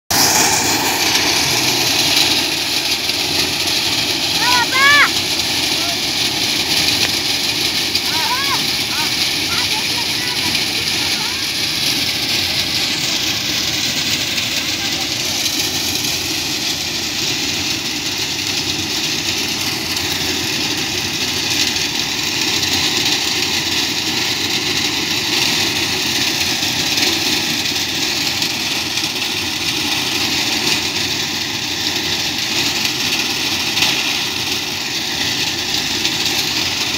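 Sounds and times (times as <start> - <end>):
tractor engine running: 0.1 - 36.9.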